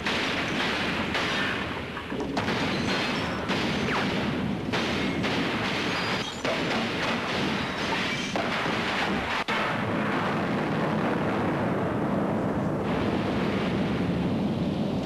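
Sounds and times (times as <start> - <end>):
gunfire and explosions: 0.0 - 15.0.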